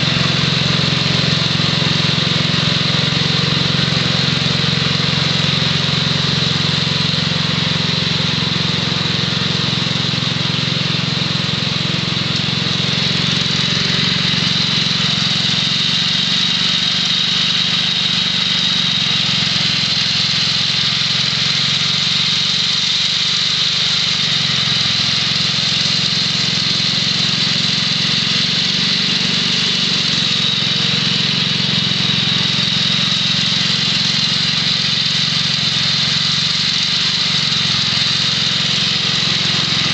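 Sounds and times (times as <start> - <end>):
small engine running: 0.0 - 39.9
snowthrower throwing snow: 0.0 - 39.9.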